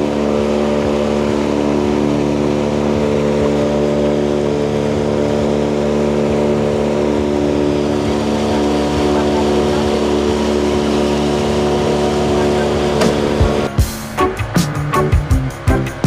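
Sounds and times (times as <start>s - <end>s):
motorboat engine drone: 0.0s - 16.0s.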